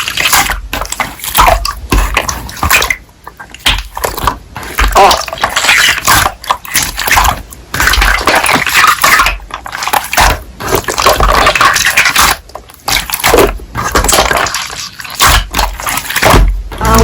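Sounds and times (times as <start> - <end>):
slime squelching and popping: 0.0 - 17.0.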